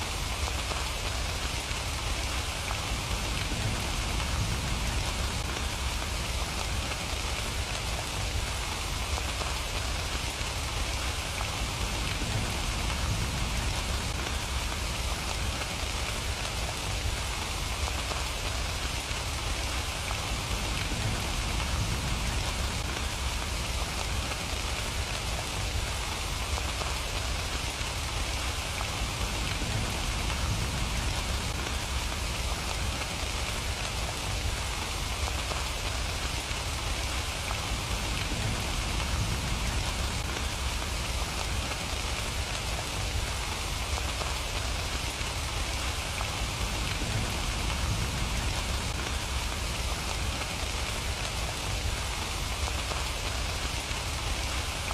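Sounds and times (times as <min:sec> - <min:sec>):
rain pattering: 0:00.0 - 0:54.9.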